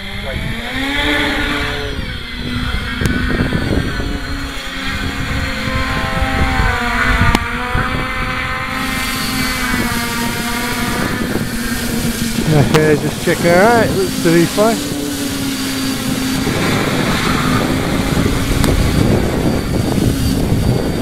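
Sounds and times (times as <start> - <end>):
drone propellers humming: 0.0 - 21.0
wind buffeting microphone: 0.0 - 21.0.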